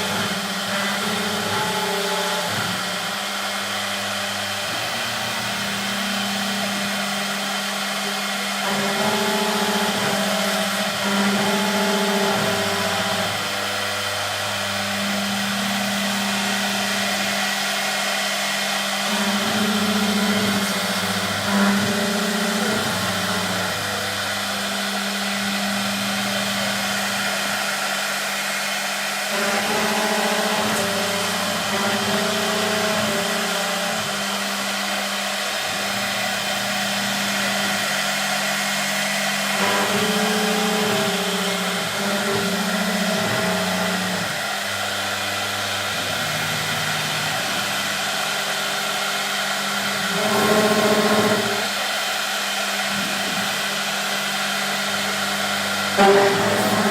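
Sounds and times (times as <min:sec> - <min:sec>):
motor hum stepping pitches: 0:00.0 - 0:56.9
router whine and cutting hiss: 0:00.0 - 0:56.9.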